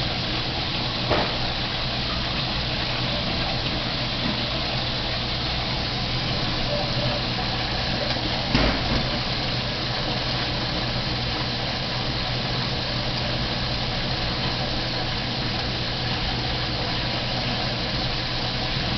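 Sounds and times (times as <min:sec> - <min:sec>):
motor hum: 0:00.0 - 0:18.9.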